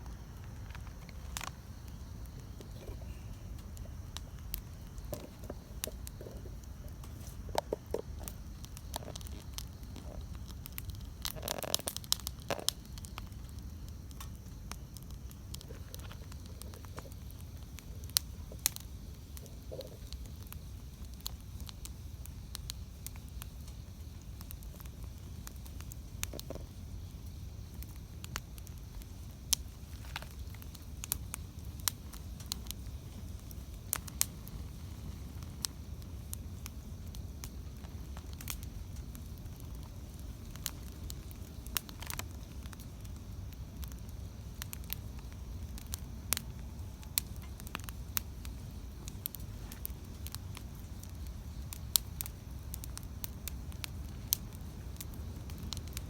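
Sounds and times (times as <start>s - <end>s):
burning wood crackles and pops: 0.0s - 56.0s
low rumble of flame: 0.0s - 56.0s.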